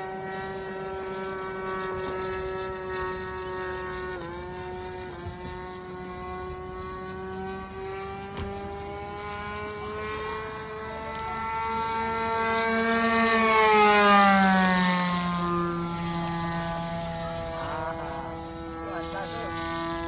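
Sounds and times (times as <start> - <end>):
model plane engine buzzing: 0.0 - 20.0.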